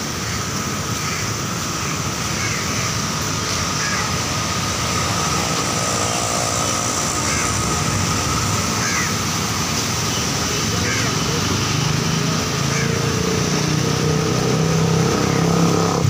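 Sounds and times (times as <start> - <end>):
road traffic on wet road: 0.0 - 16.0.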